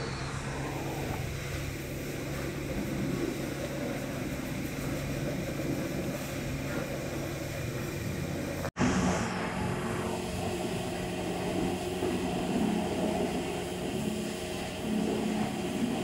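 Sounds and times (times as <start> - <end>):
machine motor droning hum: 0.0 - 16.0.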